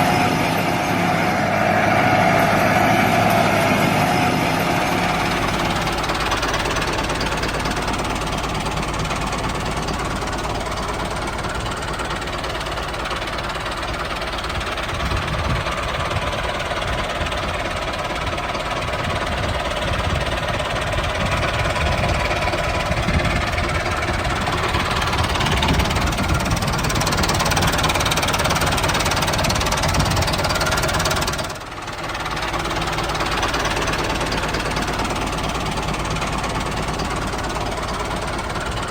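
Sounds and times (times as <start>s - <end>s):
small tractor engine knocking: 0.0s - 38.9s.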